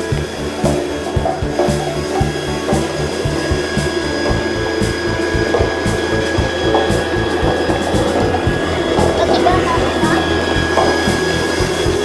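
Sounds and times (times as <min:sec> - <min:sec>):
machine whirring and ratcheting: 0:00.0 - 0:12.0.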